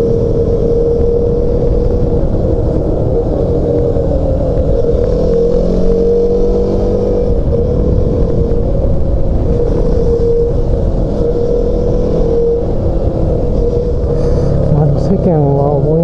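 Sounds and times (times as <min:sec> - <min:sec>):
motorcycle engine cruising: 0:00.0 - 0:16.0
wind rumble on microphone: 0:00.0 - 0:16.0.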